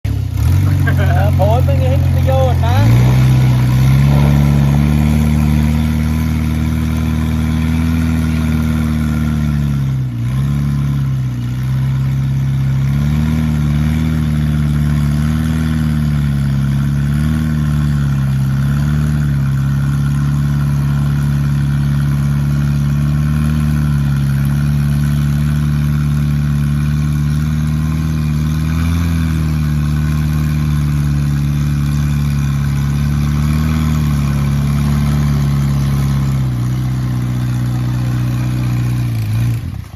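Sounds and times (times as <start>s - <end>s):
dredge boat engine running: 0.1s - 39.9s.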